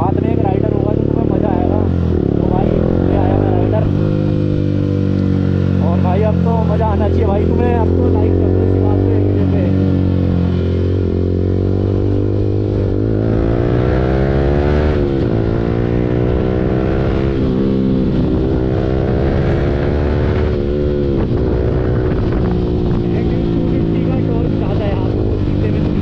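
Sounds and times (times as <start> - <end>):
motorcycle engine accelerating: 0.0 - 26.0
road noise: 0.0 - 26.0
wind noise: 0.0 - 26.0.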